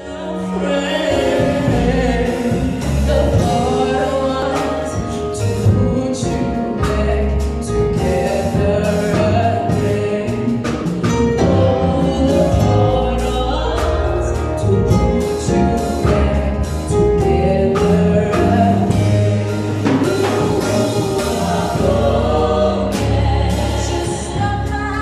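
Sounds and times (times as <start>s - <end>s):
backing singers in harmony: 0.0s - 25.0s
woman singing: 0.0s - 25.0s
drum kit beat: 0.2s - 25.0s.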